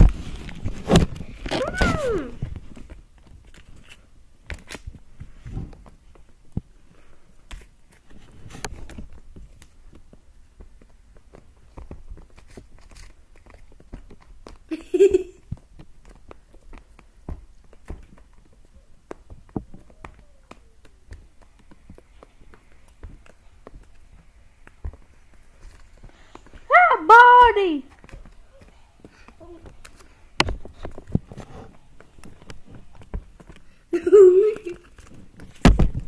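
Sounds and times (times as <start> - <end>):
soft taps and rustles: 0.0 - 36.0.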